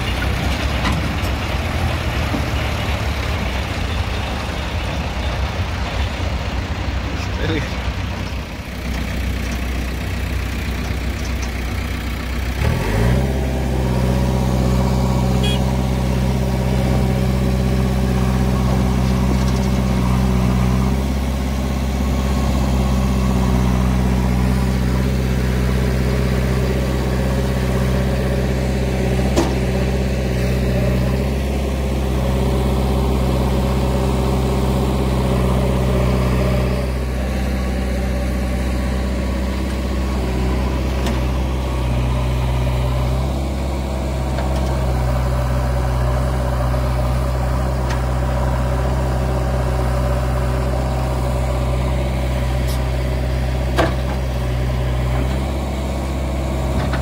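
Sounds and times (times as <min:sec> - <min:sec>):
backhoe diesel engine revving: 0:00.0 - 0:57.0
tractor engine running: 0:00.0 - 0:57.0.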